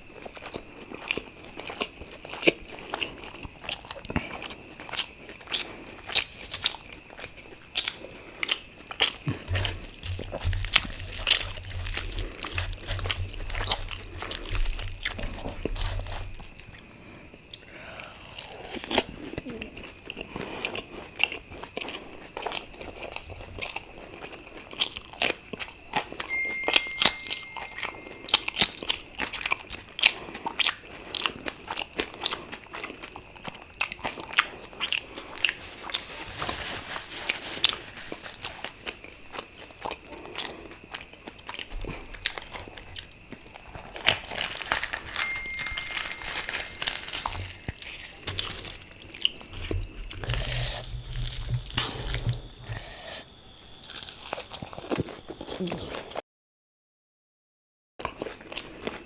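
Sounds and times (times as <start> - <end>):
crisp chewing crunches: 0.0 - 56.2, 58.0 - 59.0.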